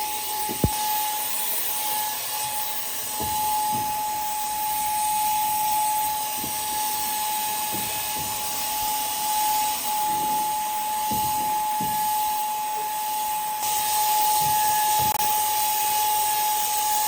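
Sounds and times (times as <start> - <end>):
machine hissing and whining: 0.0 - 17.0.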